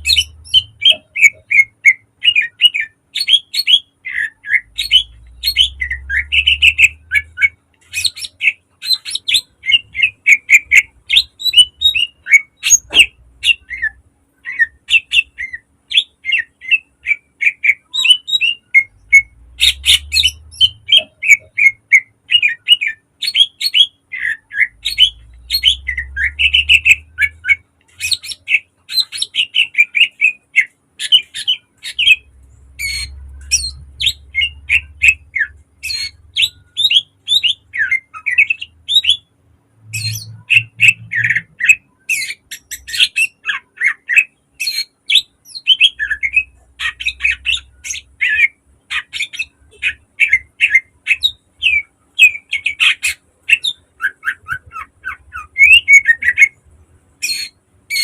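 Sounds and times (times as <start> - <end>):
bird chirping and trilling: 0.0 - 56.6, 57.2 - 58.0.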